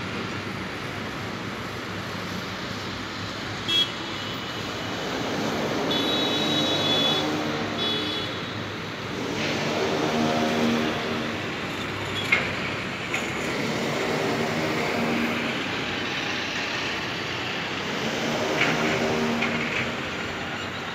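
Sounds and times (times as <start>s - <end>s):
road traffic noise: 0.0s - 20.9s
vehicle engine hum: 0.0s - 20.9s.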